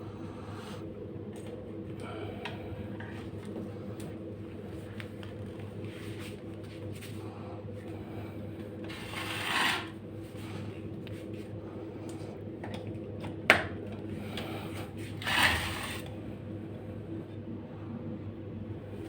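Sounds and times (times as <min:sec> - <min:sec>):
ceiling fan motor humming: 0:00.0 - 0:19.0.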